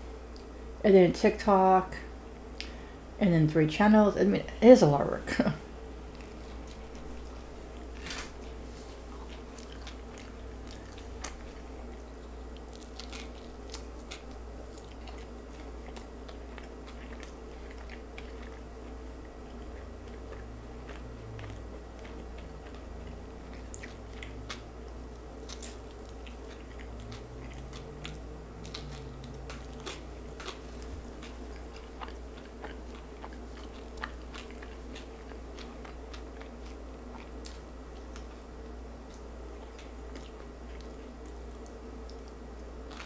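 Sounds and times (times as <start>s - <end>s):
steady low hum: 0.0s - 43.0s
close chewing and biting: 6.0s - 43.0s.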